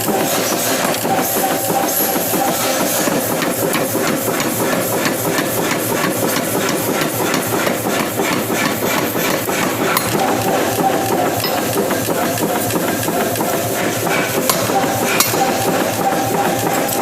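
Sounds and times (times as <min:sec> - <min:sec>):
hammer blows on hot steel: 0:00.0 - 0:17.0
mechanical running noise: 0:00.0 - 0:17.0.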